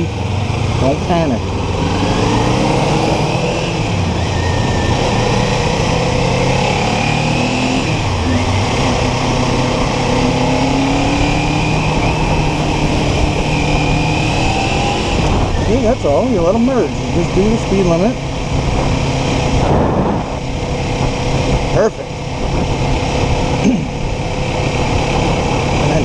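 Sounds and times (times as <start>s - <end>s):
motorcycle engine cruising: 0.0s - 26.0s
wind rushing over microphone: 0.0s - 26.0s.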